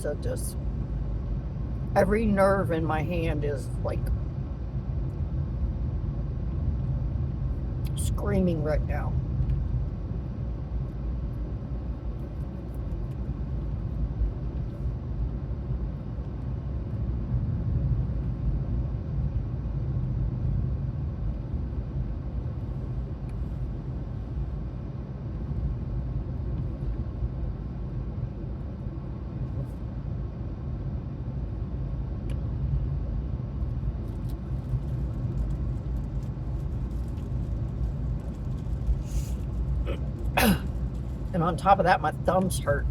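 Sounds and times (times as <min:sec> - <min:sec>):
car interior rumble: 0:00.0 - 0:42.9.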